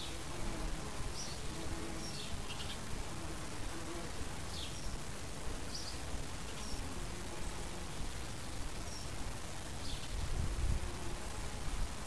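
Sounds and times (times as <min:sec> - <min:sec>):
bee buzzing: 0:00.0 - 0:12.0.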